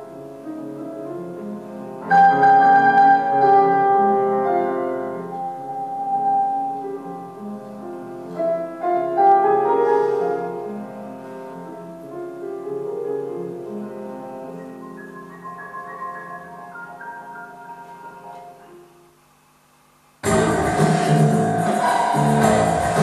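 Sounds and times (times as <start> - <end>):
slow piano music: 0.0 - 19.3, 20.2 - 23.0.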